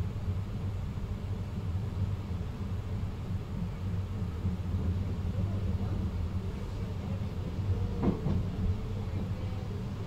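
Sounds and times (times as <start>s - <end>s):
electric train rumbling on track: 0.0s - 10.0s.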